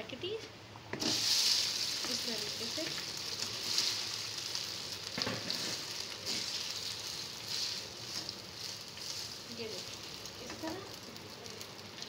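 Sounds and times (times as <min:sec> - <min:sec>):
spaghetti sizzling in hot oil: 0:00.9 - 0:12.0.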